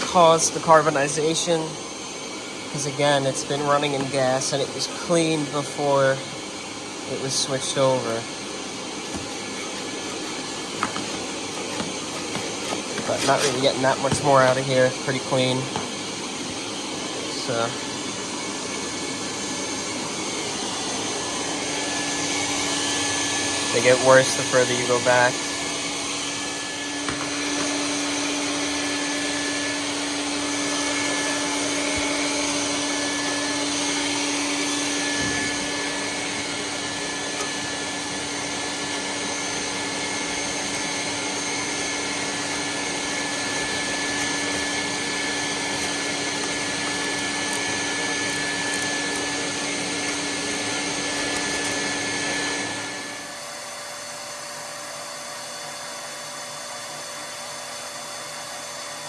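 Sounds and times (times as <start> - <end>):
vacuum humming and whining: 0.0 - 59.0.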